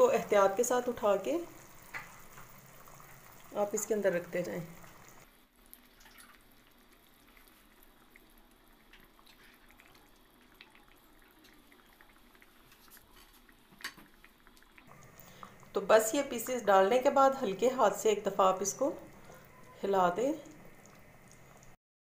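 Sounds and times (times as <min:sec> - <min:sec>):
curry simmering and bubbling: 0:00.0 - 0:21.8.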